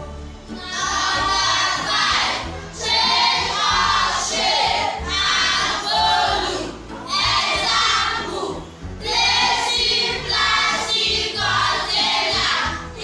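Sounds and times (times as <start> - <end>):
group of voices singing: 0.6 - 13.0.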